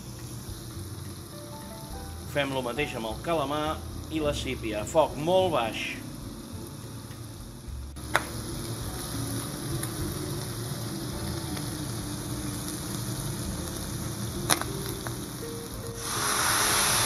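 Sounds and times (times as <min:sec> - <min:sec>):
seafood sizzling in oil: 0:00.0 - 0:17.0.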